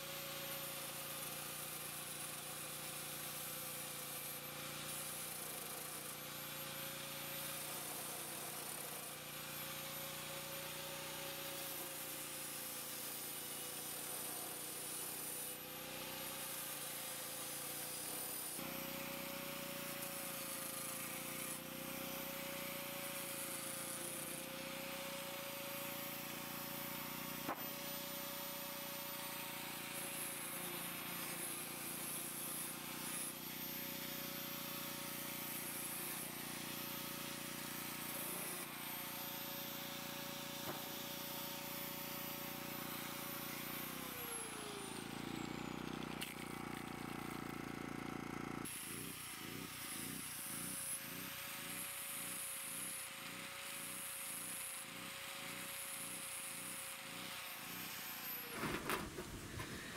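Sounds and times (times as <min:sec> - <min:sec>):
angle grinder grinding steel: 0:06.4 - 0:58.6.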